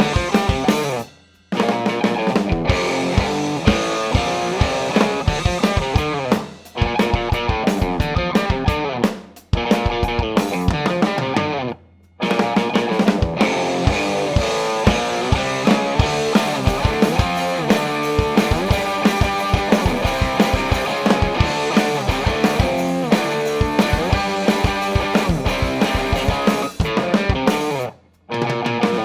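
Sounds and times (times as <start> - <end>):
overdriven electric guitar riff: 0.0 - 1.0, 1.6 - 9.0, 9.6 - 29.0
drum kit with kick drum: 0.0 - 11.4, 12.2 - 29.0.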